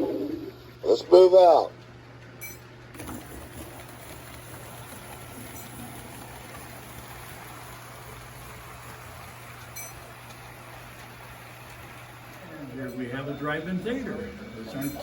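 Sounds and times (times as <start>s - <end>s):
model train running on track: 0.0s - 1.7s, 3.0s - 15.0s.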